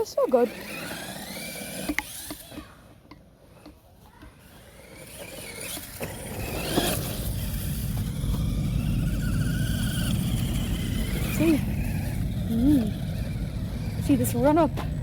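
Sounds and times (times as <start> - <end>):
electric motor whine: 0.0 - 2.8, 4.5 - 15.0.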